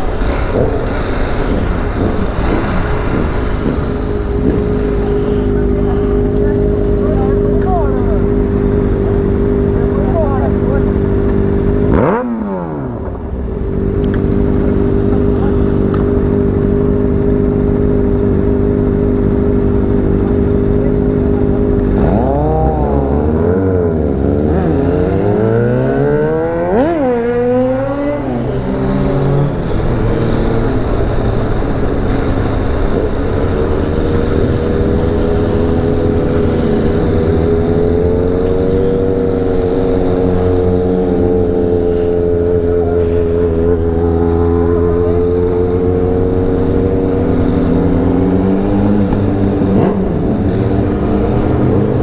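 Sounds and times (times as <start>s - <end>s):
motorcycle engines revving: 0.0s - 52.0s.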